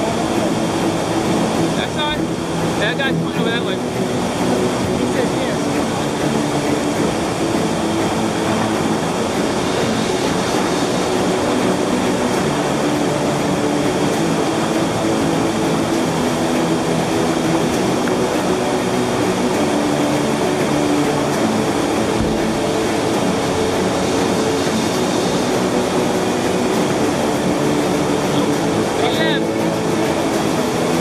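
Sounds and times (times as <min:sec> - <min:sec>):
waterfall roaring: 0:00.0 - 0:31.0.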